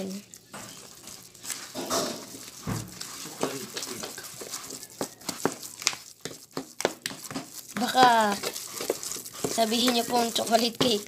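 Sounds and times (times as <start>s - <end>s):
spoon scraping a bowl: 0.2s - 11.0s.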